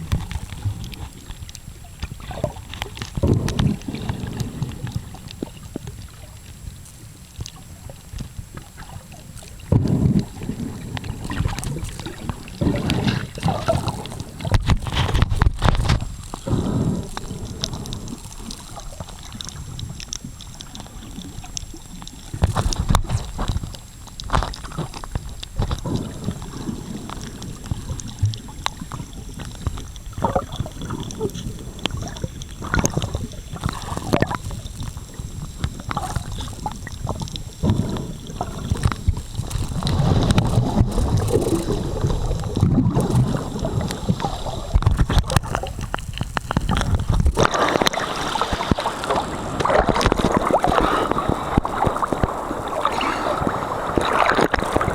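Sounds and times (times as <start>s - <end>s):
sea water sloshing and gurgling: 0.0s - 54.9s.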